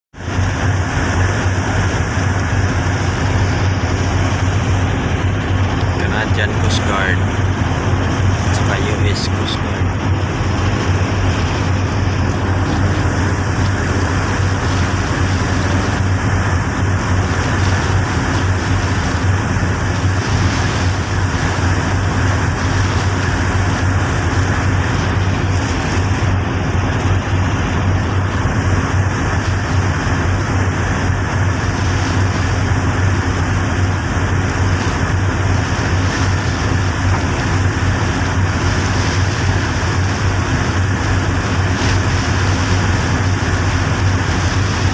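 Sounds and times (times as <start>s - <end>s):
boat engine droning: 0.1s - 44.9s
rush of wind and water: 0.1s - 44.9s.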